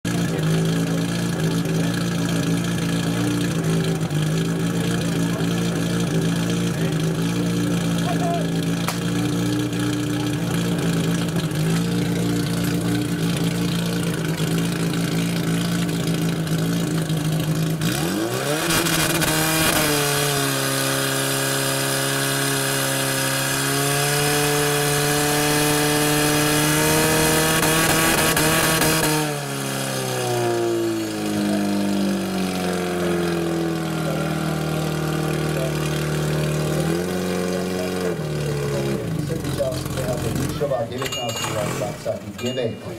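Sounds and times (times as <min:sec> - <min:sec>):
fire pump engine running: 0:00.0 - 0:42.9.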